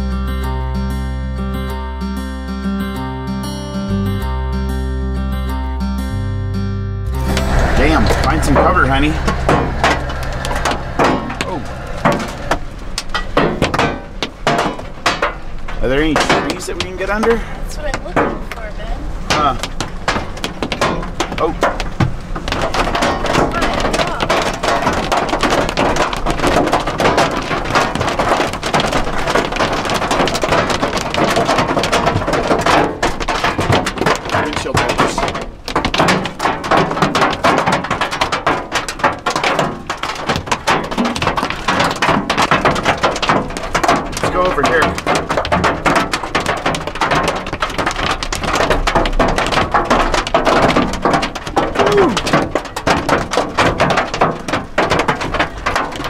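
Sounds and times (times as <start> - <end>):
hail pelting on a truck: 7.2 - 56.0.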